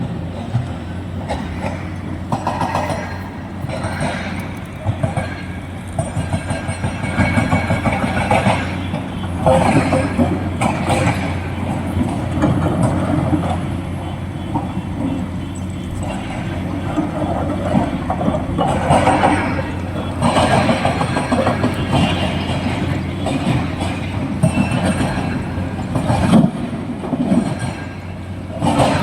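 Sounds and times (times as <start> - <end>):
excavator diesel engine: 0.0 - 29.0.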